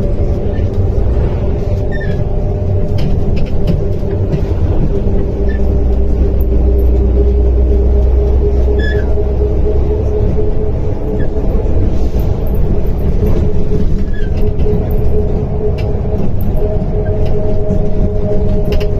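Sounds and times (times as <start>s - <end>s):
bus diesel engine rumble: 0.0s - 18.9s.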